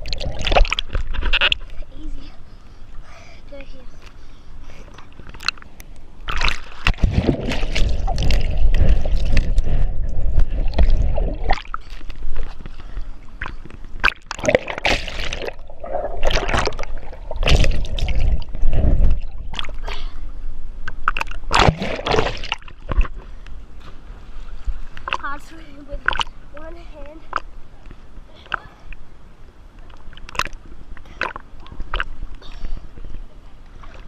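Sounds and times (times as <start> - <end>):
water sloshing and splashing: 0.0 - 1.8, 5.0 - 20.2, 20.9 - 29.0, 29.7 - 34.0.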